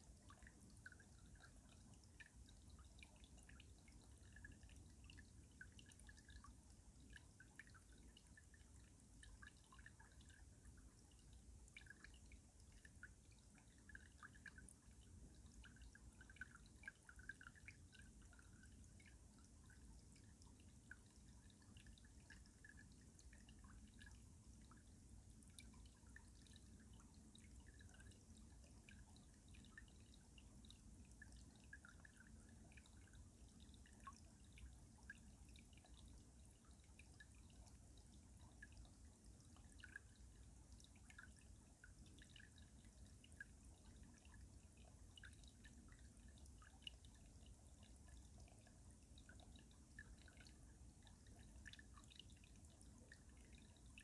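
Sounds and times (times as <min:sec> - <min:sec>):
water dripping: 0:00.0 - 0:54.0.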